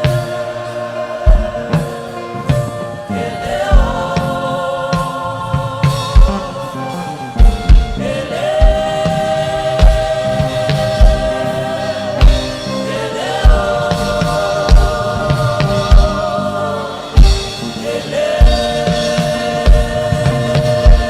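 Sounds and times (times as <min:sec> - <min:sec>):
choir singing gospel: 0:00.0 - 0:21.0
slow low drum beat: 0:00.0 - 0:21.0.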